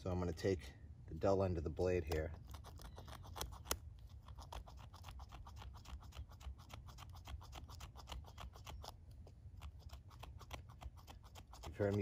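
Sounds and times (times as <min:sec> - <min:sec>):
knife scraping fungus: 0:02.0 - 0:12.0.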